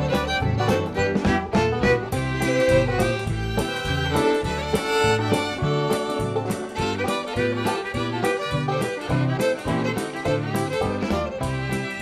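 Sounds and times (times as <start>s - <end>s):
band music led by fiddle: 0.0s - 12.0s
regular drum beat: 0.0s - 12.0s
walking bass line: 0.0s - 12.0s.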